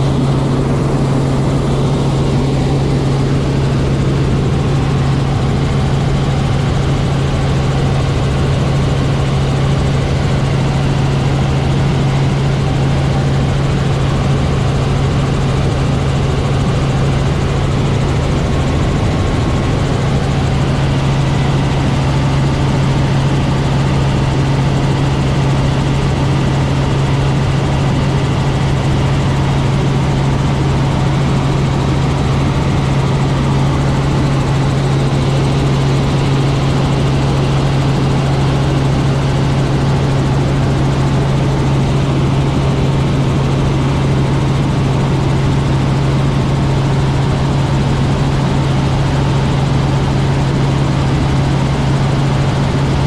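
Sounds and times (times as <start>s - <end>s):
helicopter engine and rotors: 0.0s - 53.0s.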